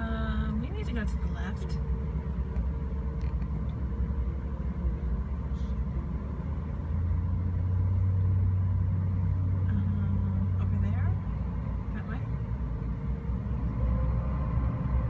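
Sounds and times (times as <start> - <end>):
ferry engines rumbling: 0.0 - 15.0
low hum: 0.0 - 15.0.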